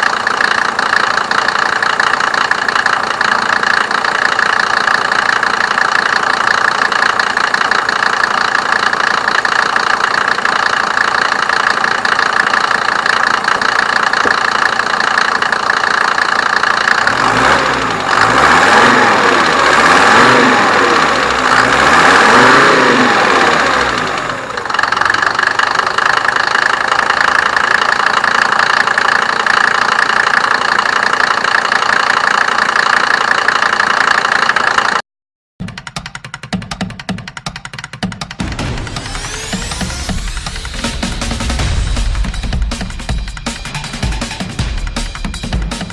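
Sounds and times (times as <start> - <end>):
diesel engine idling and revving: 0.0 - 35.0, 37.6 - 45.9.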